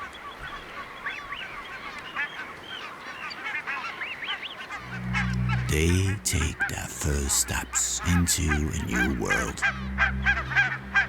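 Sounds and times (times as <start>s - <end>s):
geese calling: 1.1s - 11.0s.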